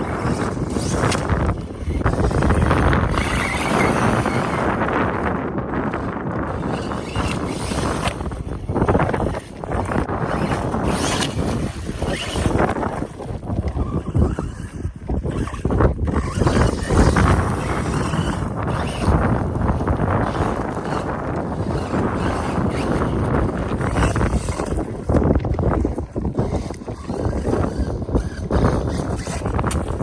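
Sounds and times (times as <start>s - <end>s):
gusty wind buffeting microphone: 0.0s - 30.0s.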